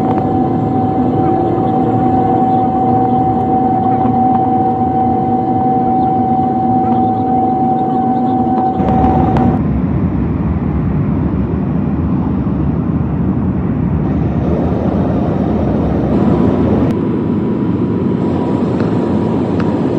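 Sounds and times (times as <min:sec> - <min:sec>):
airplane engines rumbling: 0:00.0 - 0:19.9.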